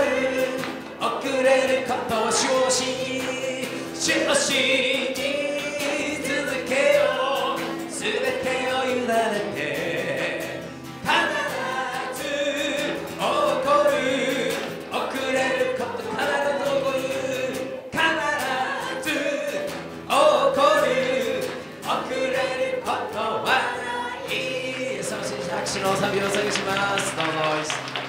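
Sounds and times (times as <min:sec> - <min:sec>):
congregation singing along: 0:00.0 - 0:28.0
guitar accompaniment: 0:00.0 - 0:28.0.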